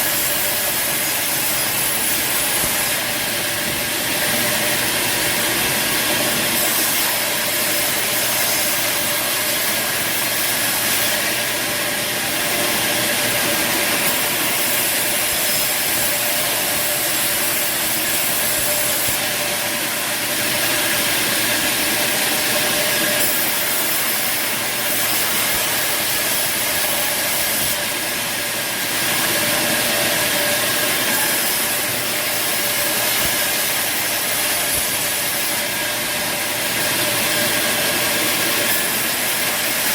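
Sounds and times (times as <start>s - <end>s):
saw blade cutting timber: 0.0s - 39.9s
sawmill mechanical hum: 0.0s - 39.9s.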